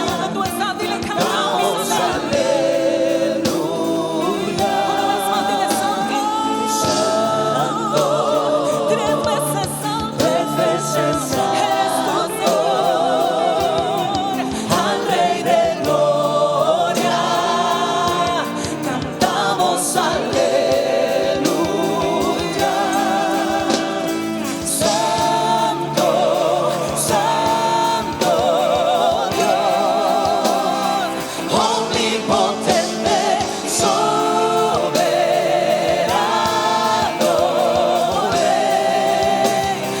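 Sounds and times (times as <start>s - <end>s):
choir voices holding notes: 0.0s - 40.0s
worship song by band: 0.0s - 40.0s.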